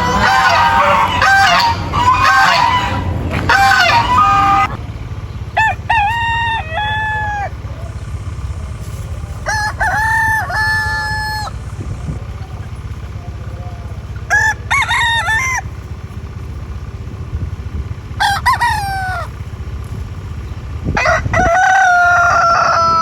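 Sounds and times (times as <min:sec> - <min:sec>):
chickens clucking: 0:00.0 - 0:23.0
roosters crowing: 0:00.0 - 0:23.0
steady low hum: 0:00.0 - 0:23.0.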